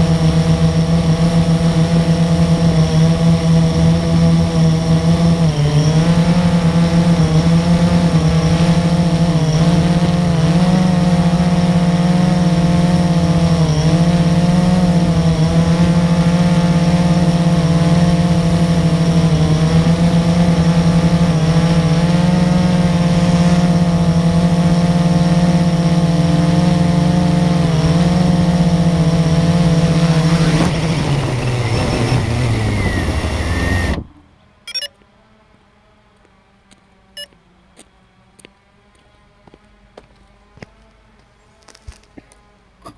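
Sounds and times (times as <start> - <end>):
quadcopter motors humming: 0.0 - 37.5.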